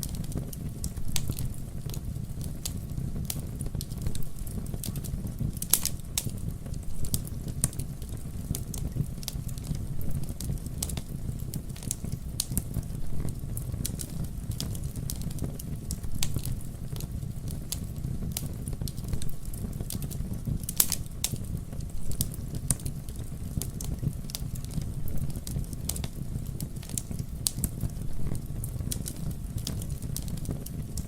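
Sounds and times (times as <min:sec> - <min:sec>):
fire crackles and pops: 0:00.0 - 0:31.0
wood fire burning: 0:00.0 - 0:31.0.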